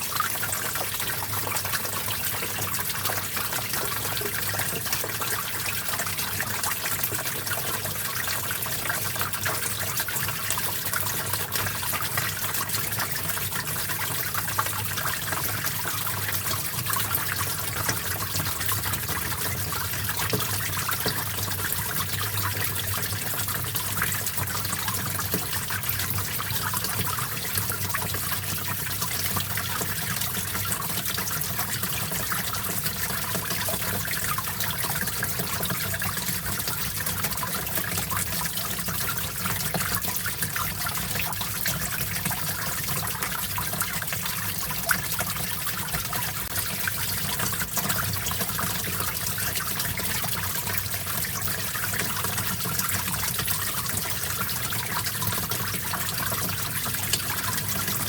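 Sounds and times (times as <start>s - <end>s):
small stream trickling: 0.0s - 58.0s.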